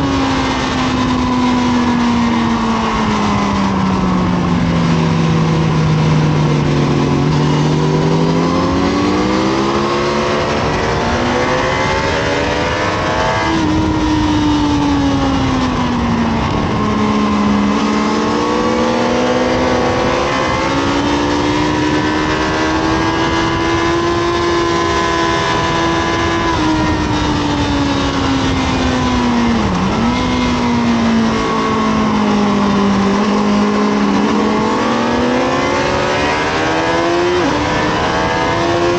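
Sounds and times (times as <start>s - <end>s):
motorcycle engine at racing speed: 0.0s - 38.9s
wind noise: 0.0s - 38.9s.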